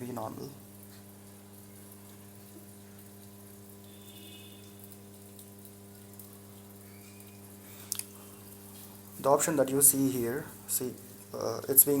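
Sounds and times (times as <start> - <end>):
water filling washing machine: 0.0 - 12.0.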